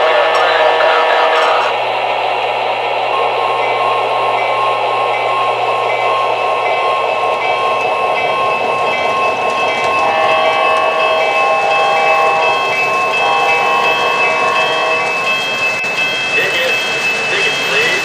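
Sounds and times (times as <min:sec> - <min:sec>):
low hum: 0:00.0 - 0:15.8.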